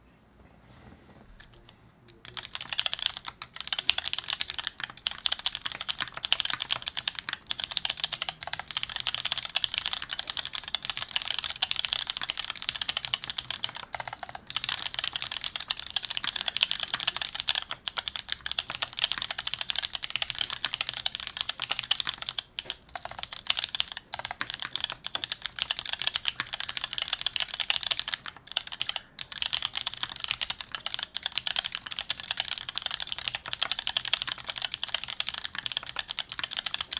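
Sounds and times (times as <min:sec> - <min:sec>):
mechanical keyboard typing: 0:02.1 - 0:36.9.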